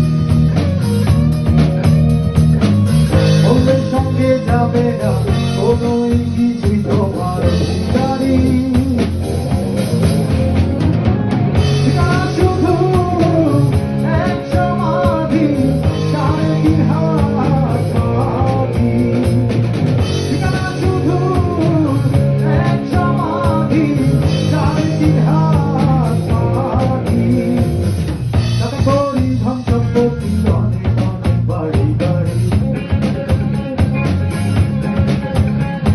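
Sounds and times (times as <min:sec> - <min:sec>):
drum kit: 0:00.0 - 0:35.9
electric guitar: 0:00.0 - 0:35.9
person singing: 0:03.1 - 0:09.4, 0:11.1 - 0:34.1.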